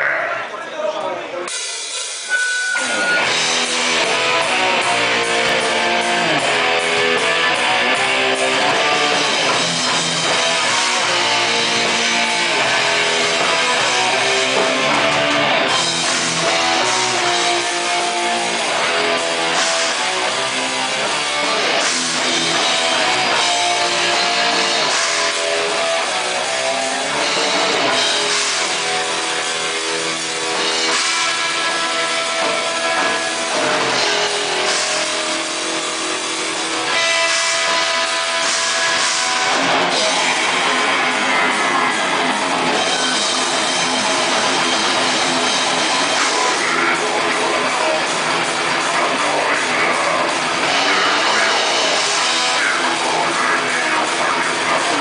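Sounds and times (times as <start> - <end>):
distorted electric guitars: 0.0 - 55.0
pounding drum kit: 1.5 - 55.0.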